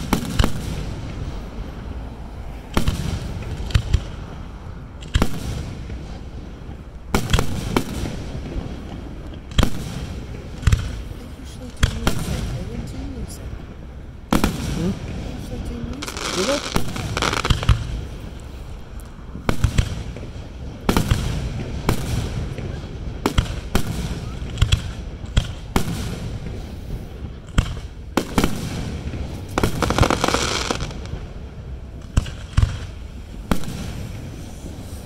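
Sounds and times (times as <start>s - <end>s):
firework bangs: 0.0s - 35.0s
firework crackling: 0.0s - 35.0s.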